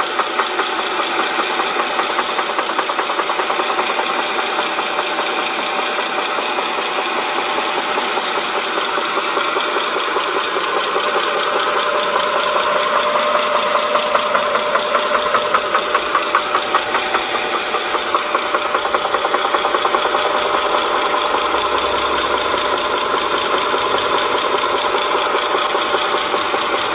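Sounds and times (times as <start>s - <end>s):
car engine running: 0.0s - 26.9s
high whine: 0.0s - 26.9s
knocking rattle: 0.0s - 26.9s.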